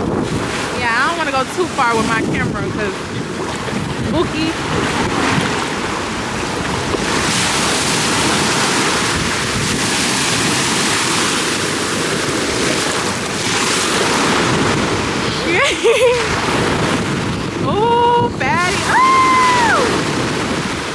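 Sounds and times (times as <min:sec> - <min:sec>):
ocean surf breaking: 0:00.0 - 0:20.9
wind buffeting microphone: 0:00.0 - 0:20.9.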